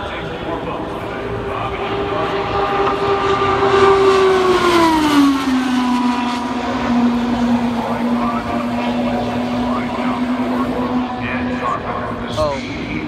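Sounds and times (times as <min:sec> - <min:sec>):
race car passing at speed: 0:00.0 - 0:13.0.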